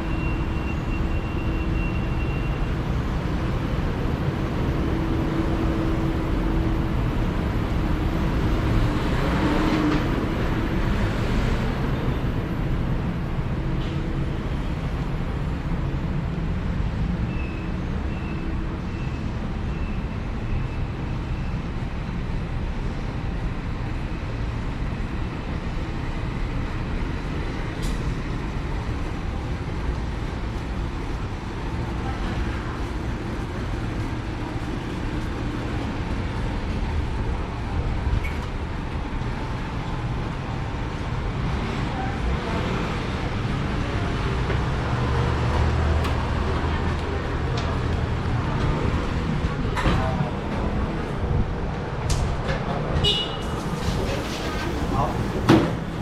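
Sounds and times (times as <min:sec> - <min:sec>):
rumble of passing vehicles: 0:00.0 - 0:56.0.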